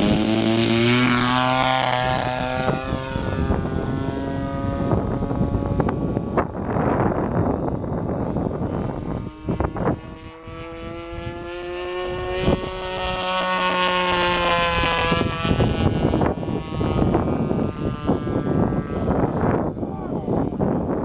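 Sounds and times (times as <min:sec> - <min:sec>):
model plane engine buzzing: 0:00.0 - 0:21.0
wind buffeting microphone: 0:00.0 - 0:21.0.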